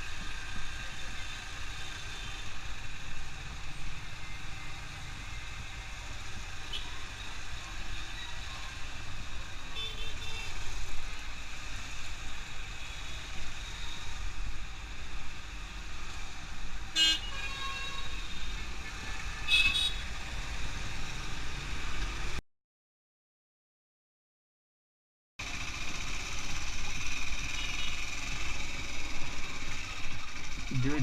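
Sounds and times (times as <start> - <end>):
road traffic: 0.0 - 22.4, 25.4 - 31.0.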